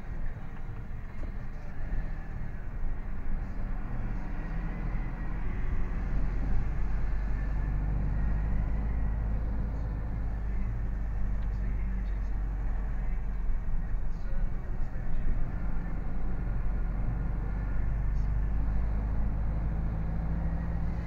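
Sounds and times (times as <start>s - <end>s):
lorry engine rumble: 0.0s - 21.0s
road noise: 0.0s - 21.0s.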